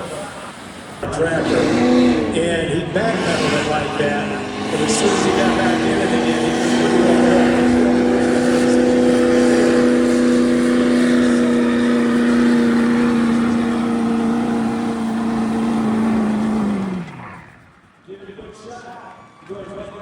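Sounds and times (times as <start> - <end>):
diesel truck engine at high revs: 0.0 - 18.0
loud roar: 1.0 - 17.8.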